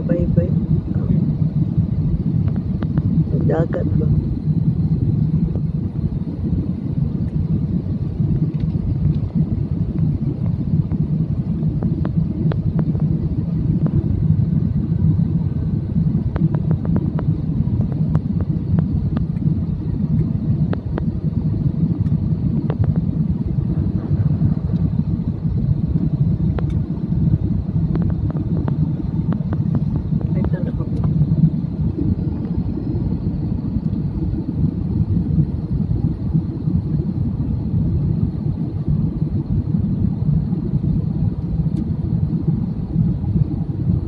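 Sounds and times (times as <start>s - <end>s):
airliner engine drone: 0.0s - 44.0s.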